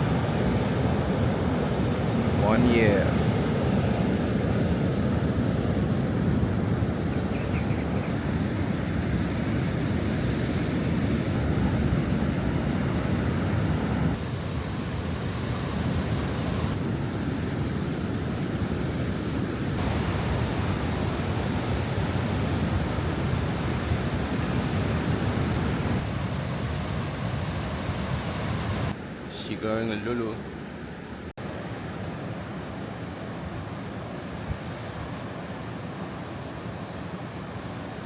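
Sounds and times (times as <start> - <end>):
sea surf breaking on shore: 0.0 - 38.0.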